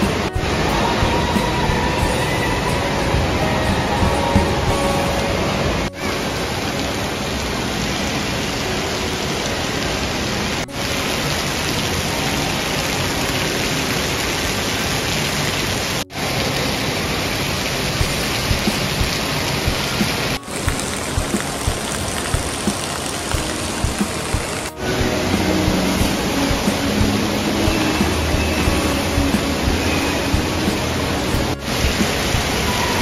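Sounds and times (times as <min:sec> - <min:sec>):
water pouring and splashing: 0:00.0 - 0:33.0.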